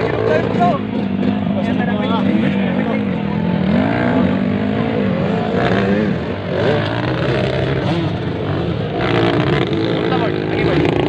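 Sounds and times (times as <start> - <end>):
motocross motorcycles revving: 0.0 - 11.0.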